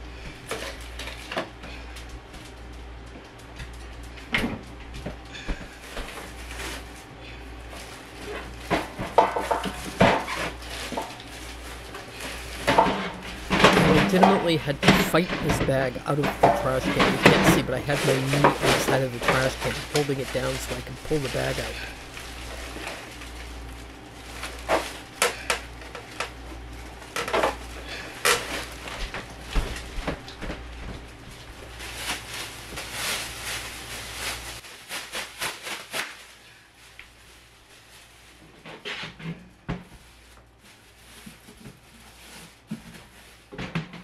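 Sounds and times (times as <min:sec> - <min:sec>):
plastic bags rustling and crinkling: 0:00.2 - 0:04.3, 0:05.4 - 0:44.0.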